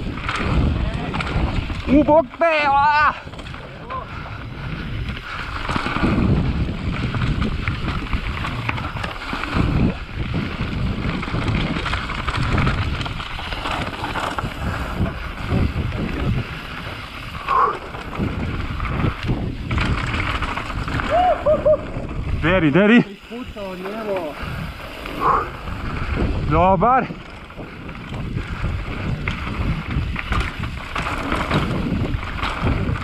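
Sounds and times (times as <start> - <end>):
bike knocking and rattling: 0.0 - 33.0
tyres rumbling on dirt and rock: 0.0 - 33.0
wind buffeting microphone: 0.0 - 33.0.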